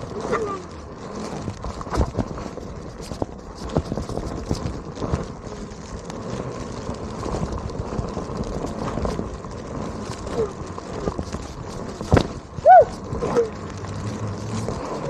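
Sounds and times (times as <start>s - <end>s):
electric board rushing noise: 0.0s - 15.0s
rocks clicking and knocking: 0.0s - 15.0s.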